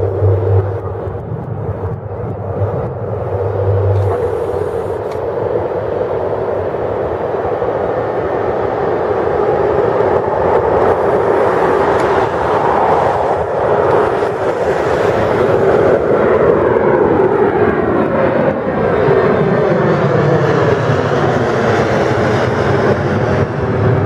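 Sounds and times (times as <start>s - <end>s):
jet airliner engines at takeoff: 0.0s - 24.0s.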